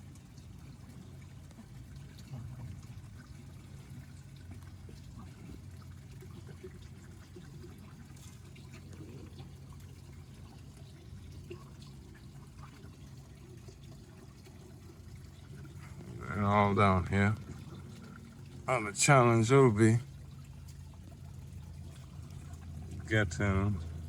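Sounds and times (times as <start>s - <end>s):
pond water trickling and splashing: 0.0s - 24.0s
water dripping: 0.0s - 24.0s.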